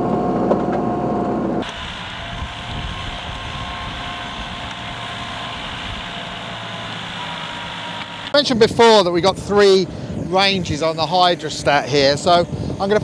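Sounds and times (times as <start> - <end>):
rotovator whine: 0.0 - 13.0
tractor diesel engine under load: 1.0 - 13.0.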